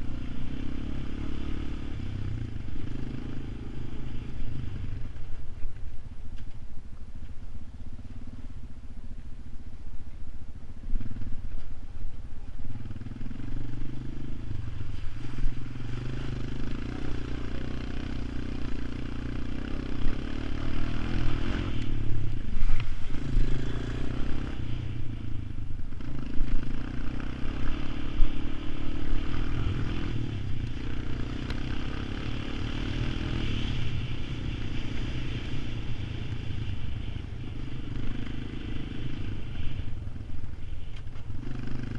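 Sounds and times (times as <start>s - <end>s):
all-terrain vehicle engine running: 0.0s - 41.9s.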